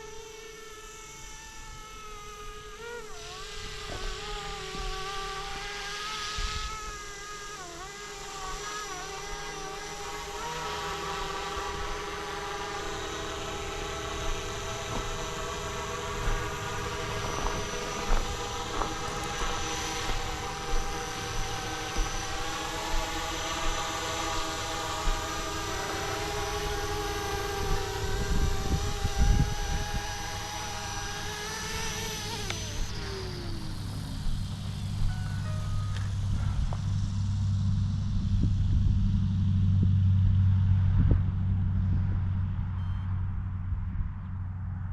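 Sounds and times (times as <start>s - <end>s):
model helicopter whine: 0.0s - 44.9s.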